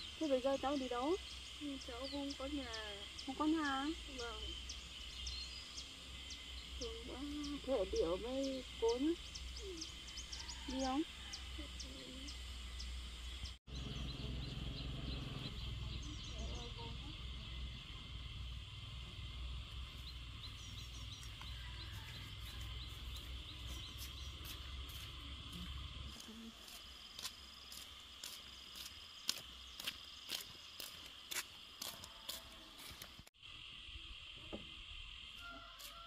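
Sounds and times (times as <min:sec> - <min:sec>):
crickets chirring: 0:00.0 - 0:36.0.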